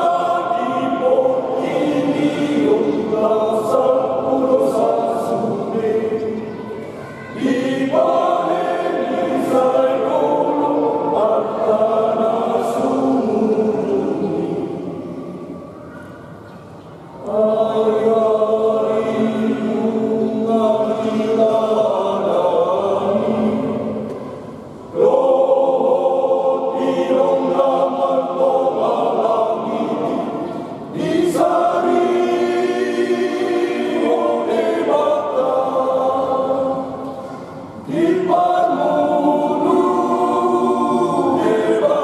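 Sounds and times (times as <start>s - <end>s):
men's choir singing a hymn: 0.0s - 16.4s, 17.2s - 42.0s.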